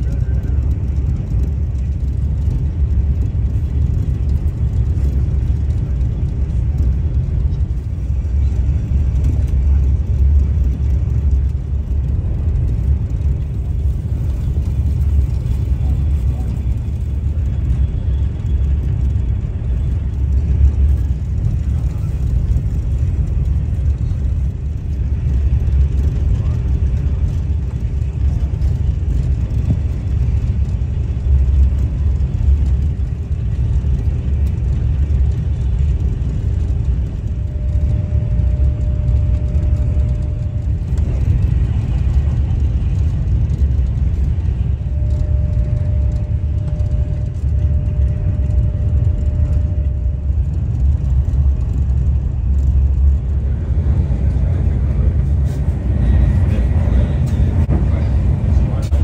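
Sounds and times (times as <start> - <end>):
faint thin whine: 0.0 - 59.0
train rumbling inside carriage: 0.0 - 59.0.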